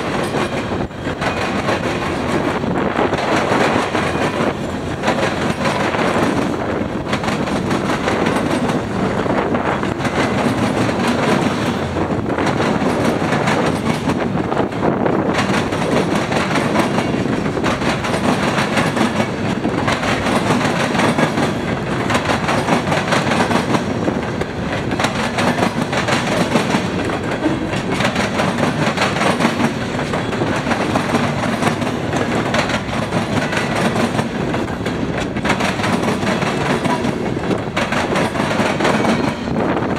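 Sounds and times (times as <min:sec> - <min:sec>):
freight train cars rolling past: 0:00.0 - 0:39.9
wheels clicking over rail joints: 0:00.0 - 0:39.9.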